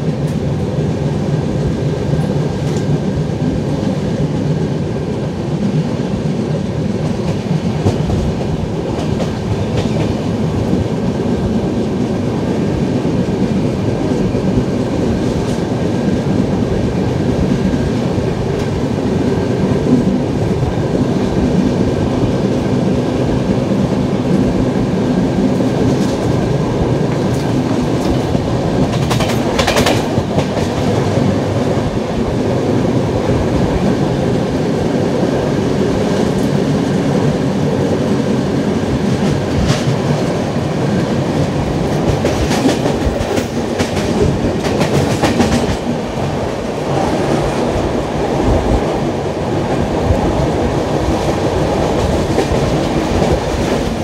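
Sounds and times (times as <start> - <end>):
clickety-clack over rail joints: 0.0 - 34.5, 35.8 - 54.0
train wheels rumbling on rail: 0.0 - 54.0.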